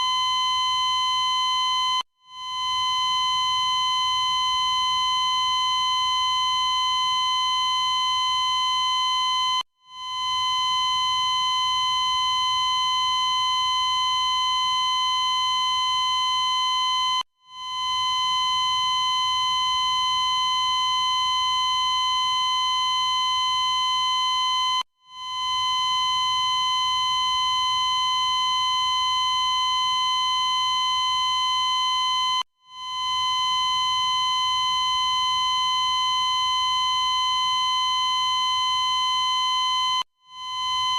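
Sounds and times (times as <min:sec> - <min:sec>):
heart monitor flatline tone: 0:00.0 - 0:40.9.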